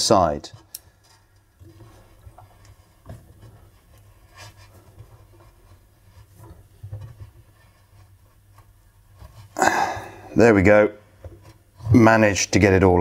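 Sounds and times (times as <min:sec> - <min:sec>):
faint scraping and rustling: 0:00.0 - 0:13.0.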